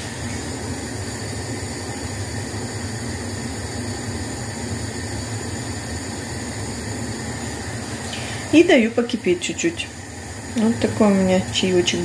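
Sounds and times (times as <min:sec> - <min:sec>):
gas burner hissing: 0:00.0 - 0:12.0
liquid heating to boil: 0:00.0 - 0:12.0.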